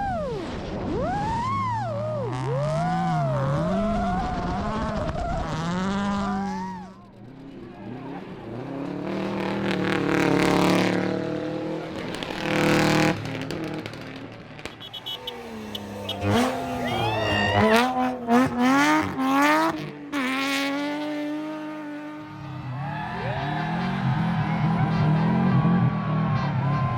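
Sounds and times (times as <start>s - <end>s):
rally car engines revving: 0.0s - 26.9s
car accelerating closer: 0.3s - 26.9s.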